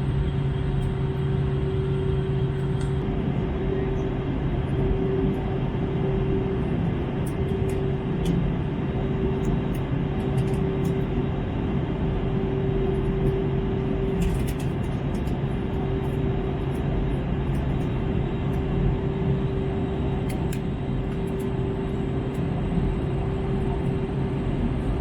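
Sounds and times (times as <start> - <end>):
airplane engines roaring: 0.0 - 25.0
steady cabin hum: 0.0 - 25.0.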